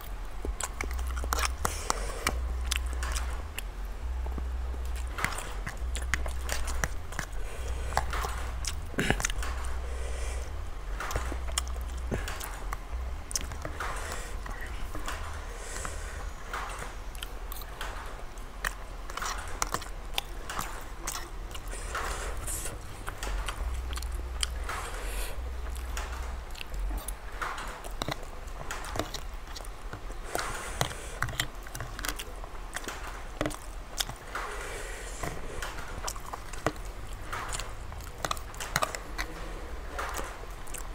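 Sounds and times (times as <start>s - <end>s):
man chewing and slurping noodles: 0.0s - 40.9s.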